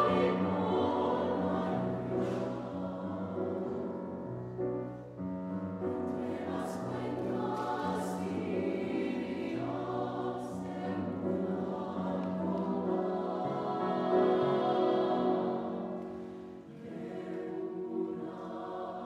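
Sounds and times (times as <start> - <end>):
mixed choir singing: 0.0 - 4.3, 5.8 - 19.0
piano accompaniment: 0.0 - 19.0.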